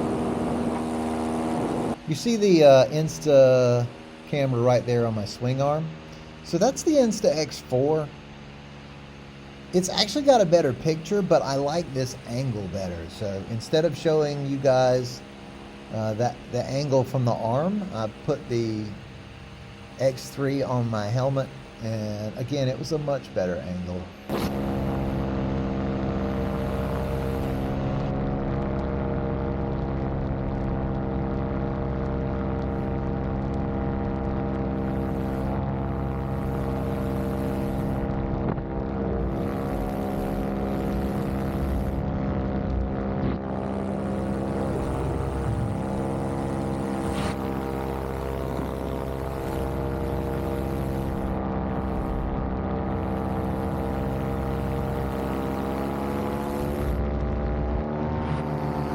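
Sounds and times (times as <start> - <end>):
paramotor engine and propeller: 0.0 - 58.9.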